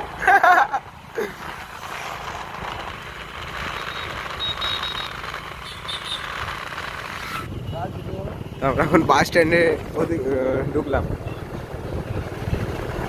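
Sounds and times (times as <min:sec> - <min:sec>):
wind and road noise: 0:00.0 - 0:13.0
motorcycle engine running: 0:01.5 - 0:13.0.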